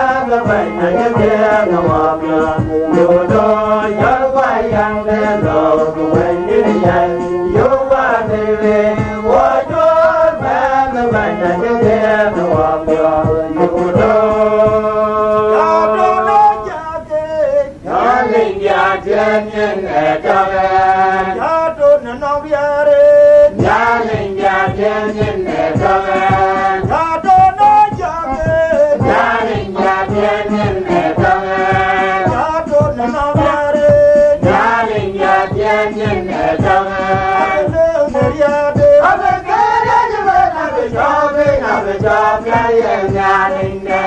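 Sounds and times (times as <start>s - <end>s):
voices singing gospel chant: 0.0s - 44.0s.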